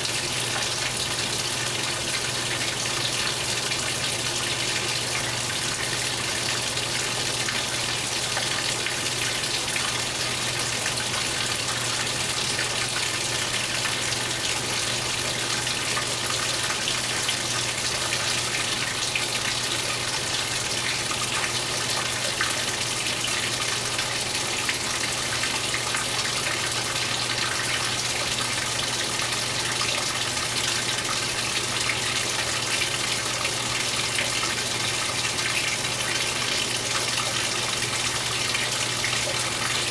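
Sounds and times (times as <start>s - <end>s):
water gushing into washer tub: 0.0s - 39.9s.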